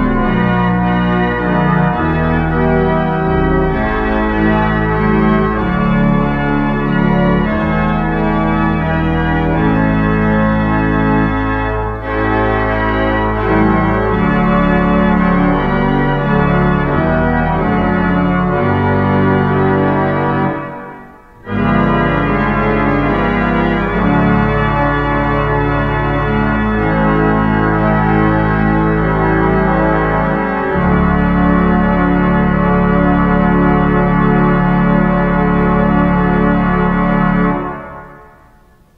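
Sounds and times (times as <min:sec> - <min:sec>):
church pipe organ playing: 0:00.0 - 0:38.9.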